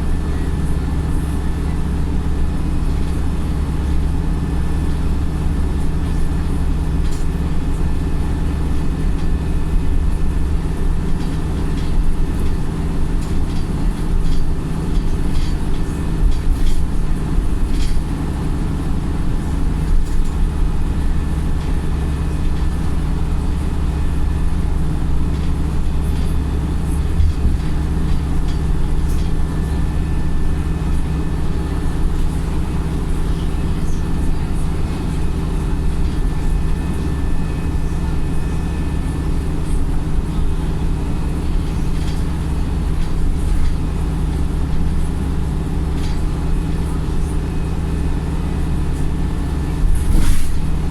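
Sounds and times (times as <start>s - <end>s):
bus diesel engine droning: 0.0s - 50.9s.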